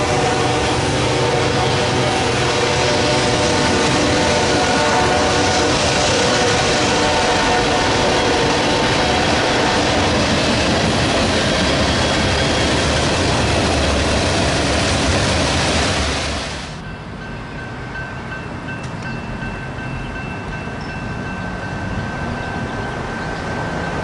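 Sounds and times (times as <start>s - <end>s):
train rushing past: 0.0s - 24.0s
train wheels clacking on rails: 0.0s - 24.0s.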